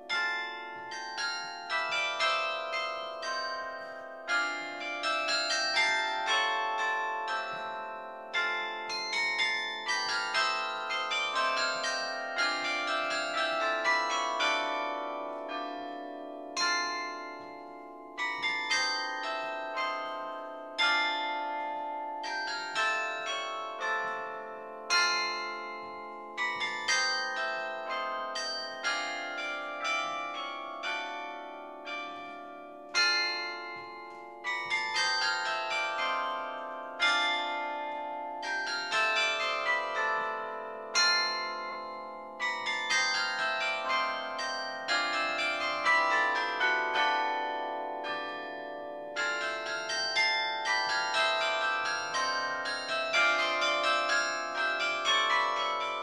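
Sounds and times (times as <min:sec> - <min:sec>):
carillon bells melody: 0:00.0 - 0:56.0.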